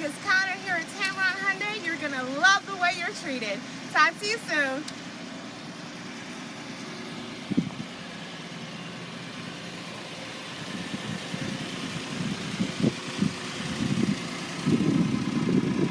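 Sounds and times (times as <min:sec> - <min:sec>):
low rumbles: 0:00.0 - 0:15.9
vehicle engine running: 0:00.0 - 0:15.9.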